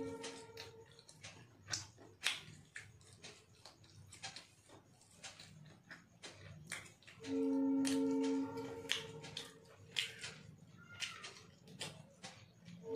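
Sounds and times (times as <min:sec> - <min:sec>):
fingers squelching rice on plate: 0:00.1 - 0:12.8
wet chewing and lip-smacking: 0:00.3 - 0:12.9.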